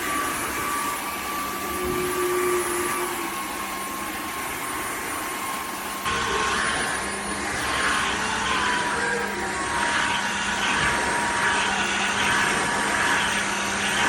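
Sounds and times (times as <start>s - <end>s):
vacuum mop motor whine: 0.0s - 14.0s.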